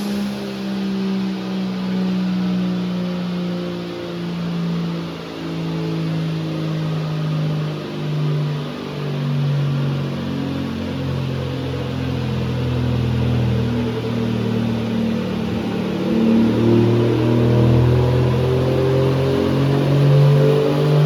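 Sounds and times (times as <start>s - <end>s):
car engine running hard: 0.0s - 21.0s.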